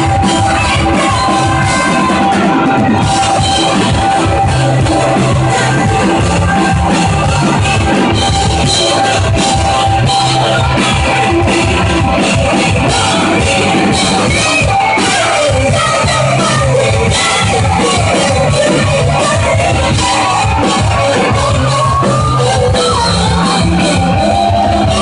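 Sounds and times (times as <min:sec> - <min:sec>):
rock band playing live: 0:00.0 - 0:25.0.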